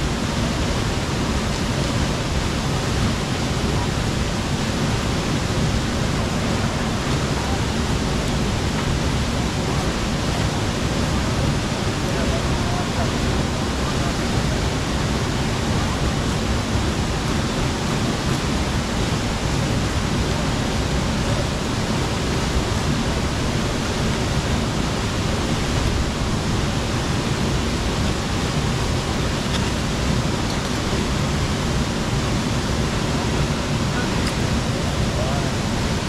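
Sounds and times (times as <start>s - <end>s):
stream running water: 0.0s - 36.0s
waterfall rushing: 0.0s - 36.0s.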